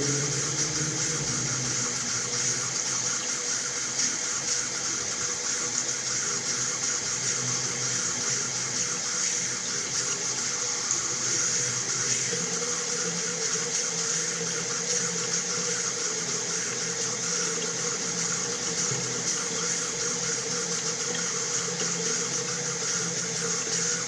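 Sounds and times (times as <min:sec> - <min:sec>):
water running from a tap: 0:00.0 - 0:24.0.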